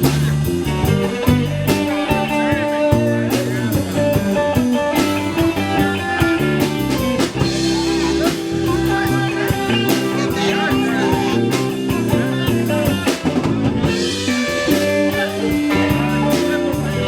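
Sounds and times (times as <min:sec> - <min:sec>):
bass: 0:00.0 - 0:17.0
guitar: 0:00.0 - 0:17.0.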